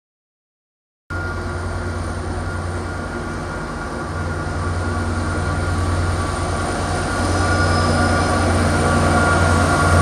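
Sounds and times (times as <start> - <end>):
diesel locomotive engine hum: 1.1 - 10.0
thin steady whine: 1.1 - 10.0.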